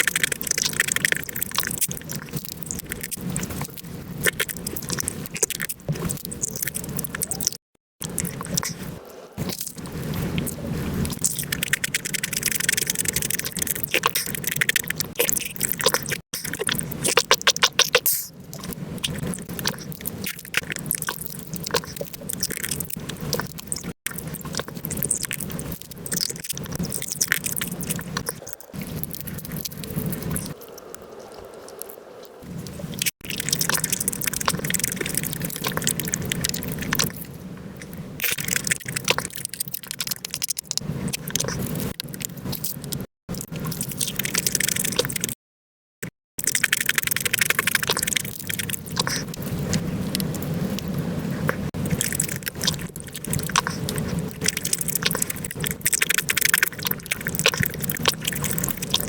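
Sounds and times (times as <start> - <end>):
sped-up wet chewing sounds: 0.0 - 45.4, 46.4 - 59.0.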